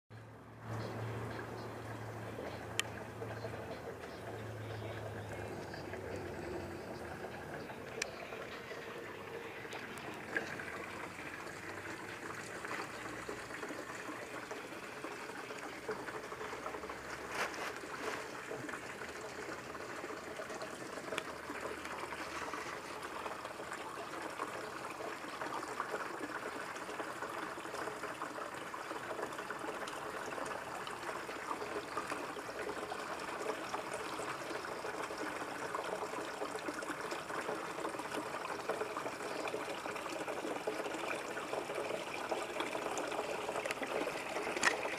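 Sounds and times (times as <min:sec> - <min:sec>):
waterfall splashing into pond: 0:00.8 - 0:44.9.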